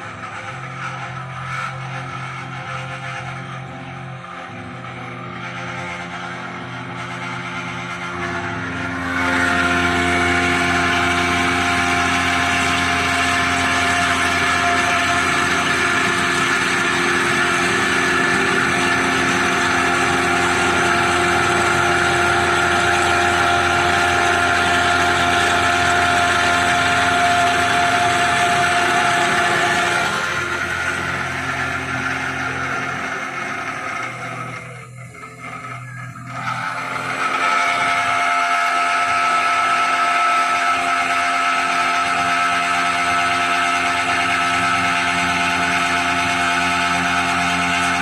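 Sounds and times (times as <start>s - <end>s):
milling machine whining hum: 0.0s - 48.0s.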